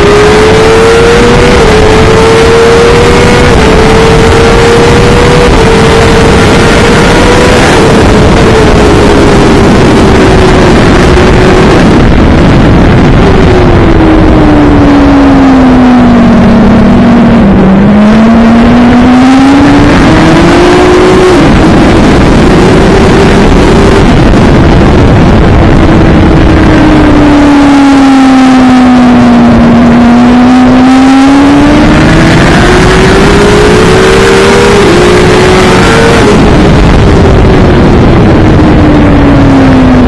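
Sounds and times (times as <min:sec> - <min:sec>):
racing motorcycle engine: 0:00.0 - 0:40.0
wind rush: 0:00.0 - 0:40.0.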